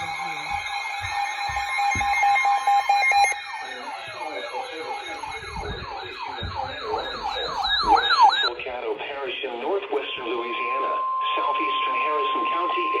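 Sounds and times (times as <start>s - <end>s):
rapidly pulsing beep: 0.0s - 13.0s
warbling siren-like alarm: 0.0s - 13.0s.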